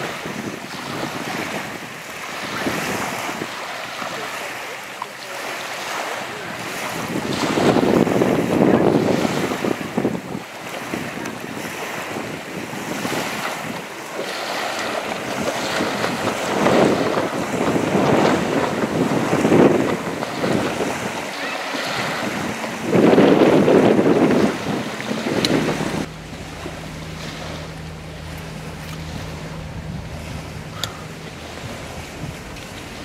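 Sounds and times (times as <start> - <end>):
wind buffeting microphone: 0.0 - 4.6, 5.9 - 33.0
distant jet ski engine: 0.0 - 33.0.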